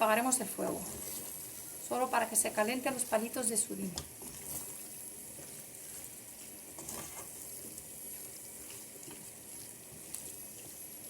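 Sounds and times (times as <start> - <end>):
faint stirring: 0.0 - 11.0
sauce sizzling in a pan: 0.0 - 11.0.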